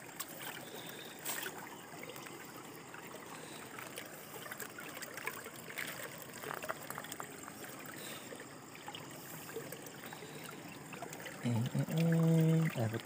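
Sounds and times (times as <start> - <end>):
small splashes and knocks: 0.0 - 13.0
stream water running: 0.0 - 13.0.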